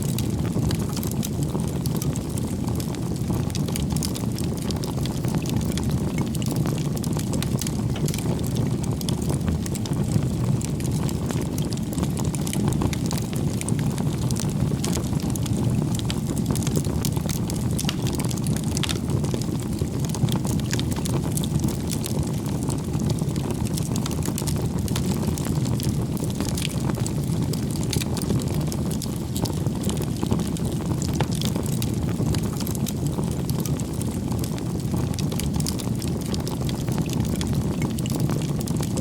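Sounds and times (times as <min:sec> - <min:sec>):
campfire flames rumbling: 0:00.0 - 0:39.0
firewood crackling and popping: 0:00.0 - 0:39.0.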